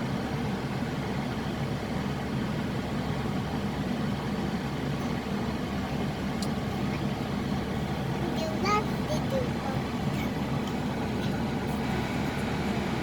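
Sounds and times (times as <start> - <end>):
road traffic drone: 0.0 - 13.0.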